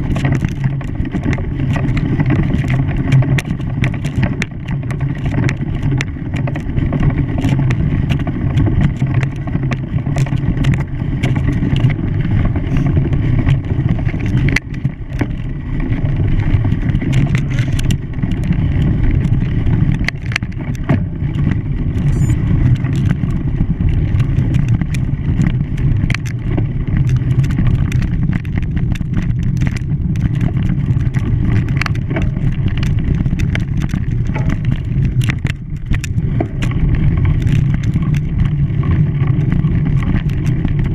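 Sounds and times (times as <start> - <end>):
engine low rumble: 0.0 - 40.9
small clicks and rattles: 0.0 - 40.9.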